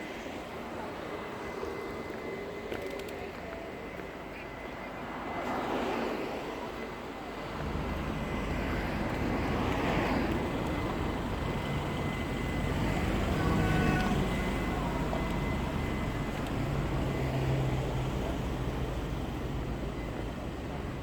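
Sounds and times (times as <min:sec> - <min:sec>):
steady outdoor noise: 0:00.0 - 0:21.0.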